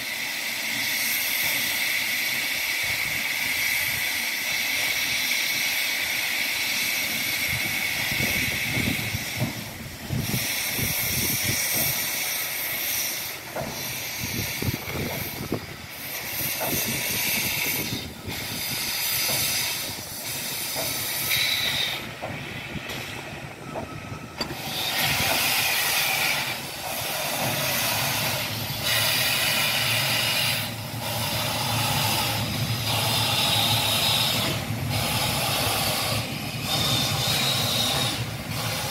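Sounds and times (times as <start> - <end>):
steam locomotive hissing: 0.0 - 38.9.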